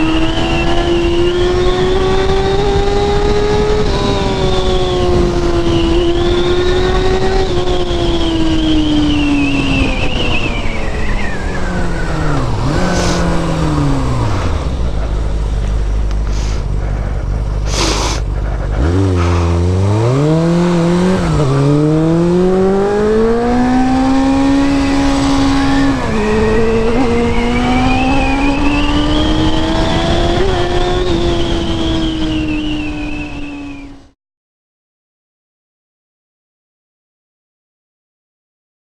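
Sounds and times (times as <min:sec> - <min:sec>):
vehicle engine at high revs: 0:00.0 - 0:34.2.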